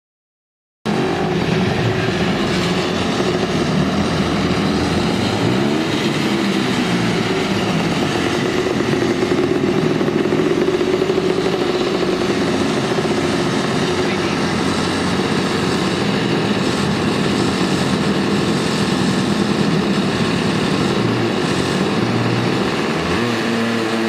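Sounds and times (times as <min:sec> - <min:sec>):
small car engine running: 0:00.9 - 0:24.0.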